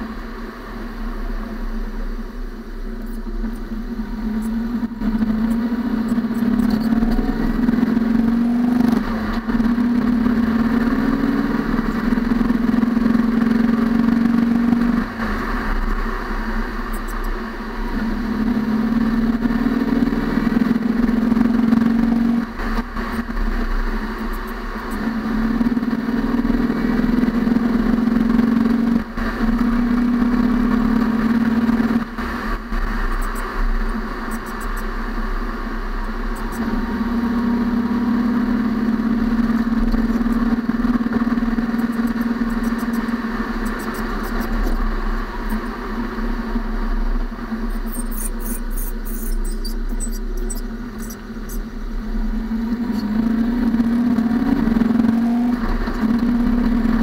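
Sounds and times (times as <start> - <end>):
car tyre and road noise: 0.0 - 57.0.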